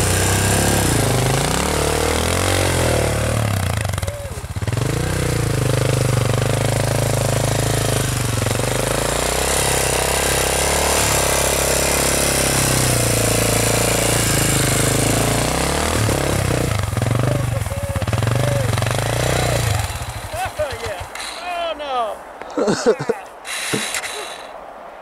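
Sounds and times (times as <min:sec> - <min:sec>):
dirt bike engine under throttle: 0:00.0 - 0:21.7.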